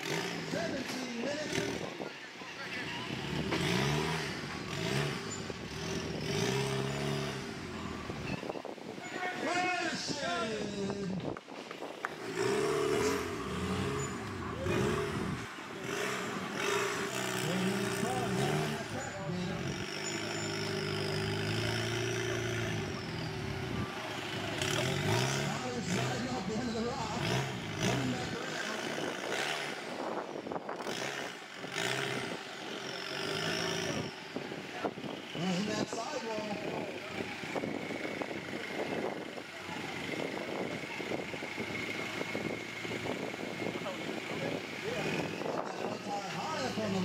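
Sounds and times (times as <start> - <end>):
buggy engine revving: 0.0 - 47.0.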